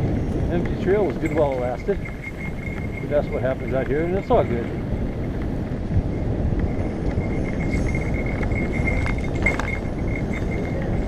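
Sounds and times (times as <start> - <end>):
bike rattling over bumps: 0.0 - 11.0
bike tyres rumbling on dirt: 0.0 - 11.0
faint high whine: 0.0 - 11.0
wind buffeting camera: 0.0 - 11.0.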